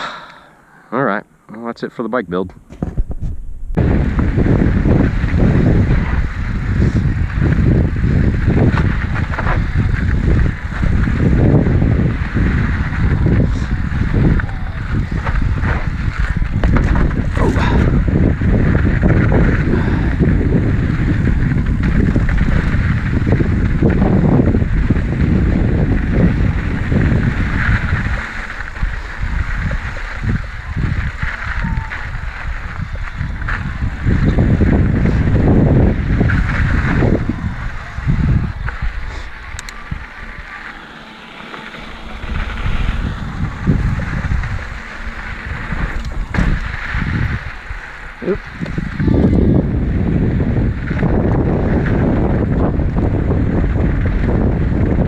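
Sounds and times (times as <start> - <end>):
wind buffeting microphone: 2.6 - 55.0
mountain bike rattling on dirt: 3.8 - 55.0.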